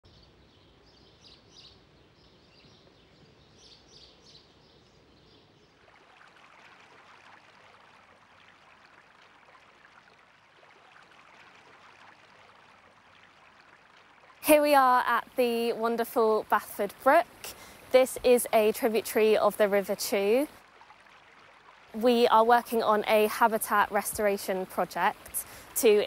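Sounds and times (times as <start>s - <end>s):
brook trickling: 0.1s - 26.0s.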